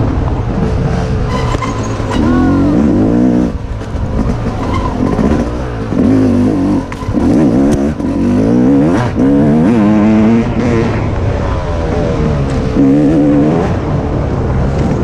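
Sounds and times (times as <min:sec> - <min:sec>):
dirt bike engine revving: 0:00.7 - 0:15.0.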